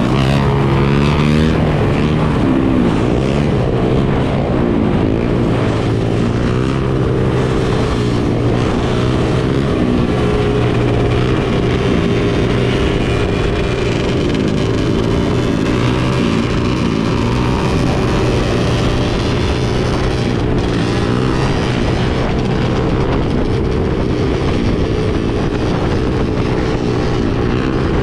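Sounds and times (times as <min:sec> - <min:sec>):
dirt bike and atv engines revving: 0:00.0 - 0:28.0.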